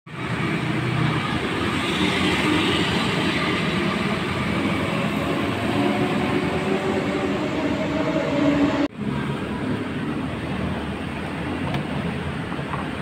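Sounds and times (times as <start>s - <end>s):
street traffic noise: 0.1s - 13.0s.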